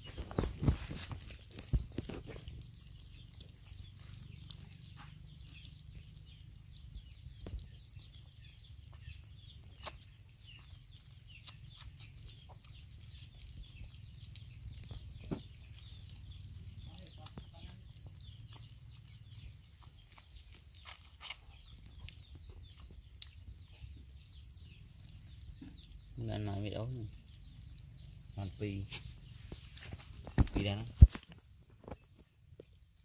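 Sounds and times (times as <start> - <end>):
faint animal squeaks and clicks: 0.0 - 33.0.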